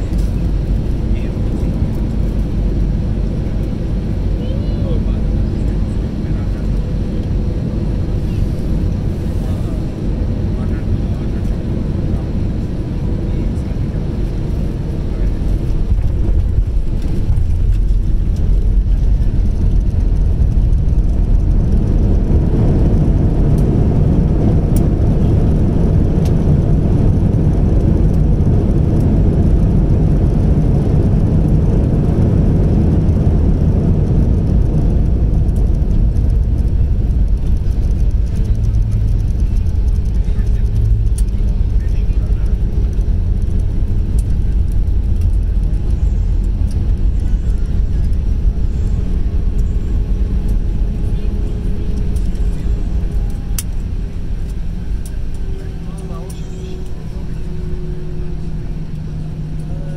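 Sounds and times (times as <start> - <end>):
jet cabin low rumble: 0.0 - 59.9.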